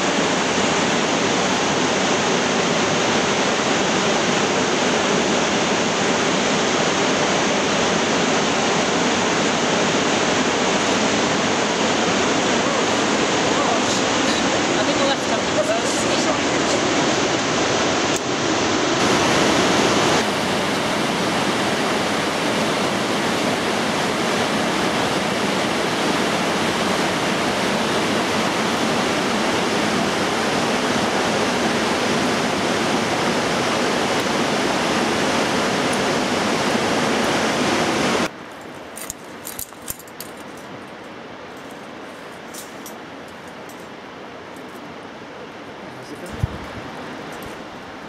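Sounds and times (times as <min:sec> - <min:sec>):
water rushing: 0:00.0 - 0:48.0.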